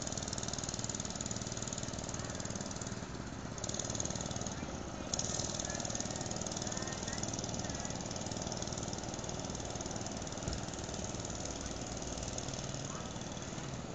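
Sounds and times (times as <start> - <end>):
small engine running: 0.0 - 13.9.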